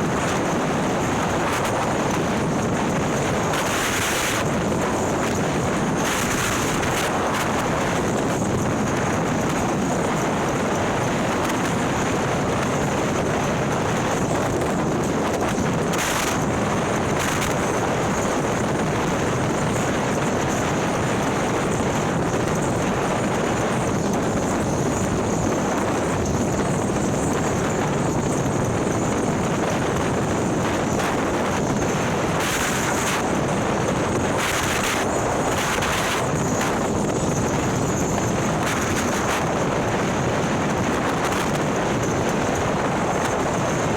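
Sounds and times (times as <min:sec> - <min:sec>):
motorcycle engine and road noise: 0:00.0 - 0:43.9
wind rushing over microphone: 0:00.0 - 0:43.9.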